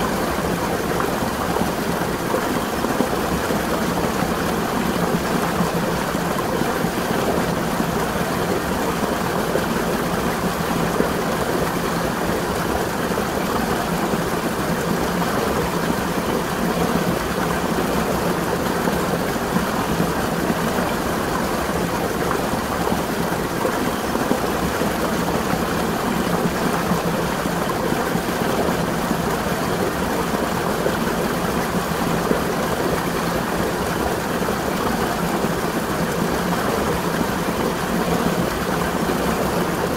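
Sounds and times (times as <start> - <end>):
spring water running and splashing: 0.0 - 39.9.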